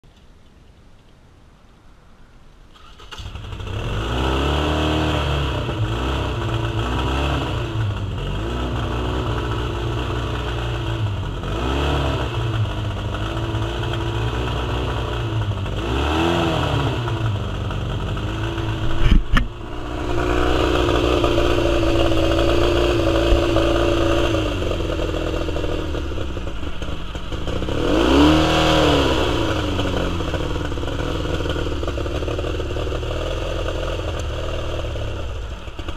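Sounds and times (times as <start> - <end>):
outboard engine revving: 3.1 - 35.9
engine knock: 5.6 - 35.9.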